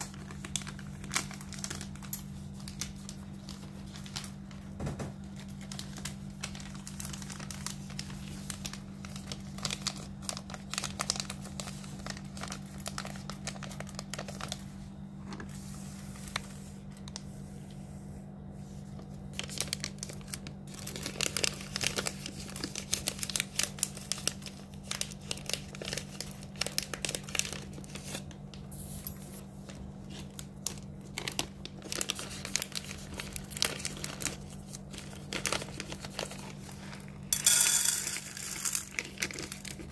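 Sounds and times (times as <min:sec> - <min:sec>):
cats crunching dry kibble: 0:00.0 - 0:04.6, 0:05.2 - 0:14.6, 0:19.2 - 0:28.7, 0:29.6 - 0:39.9
steady low hum: 0:00.0 - 0:39.9.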